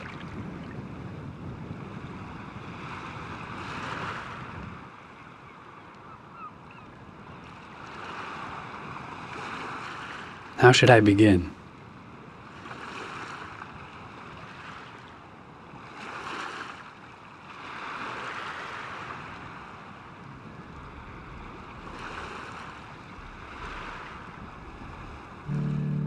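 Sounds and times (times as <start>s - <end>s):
waves washing in: 0.0s - 4.9s, 7.6s - 26.0s.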